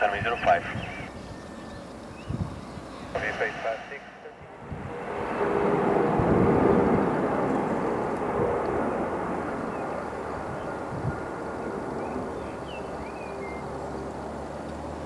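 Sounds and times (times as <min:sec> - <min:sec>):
jet engine rumble and hiss: 0:00.0 - 0:15.0.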